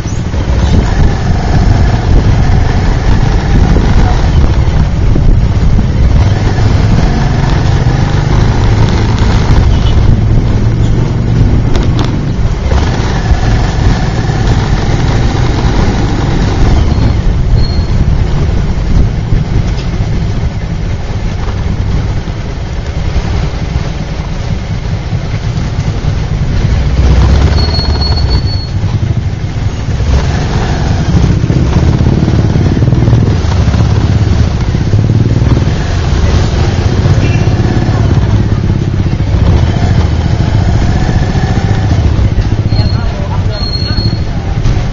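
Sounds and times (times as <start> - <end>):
motorbike engine revving: 0.0 - 20.6, 23.0 - 44.9.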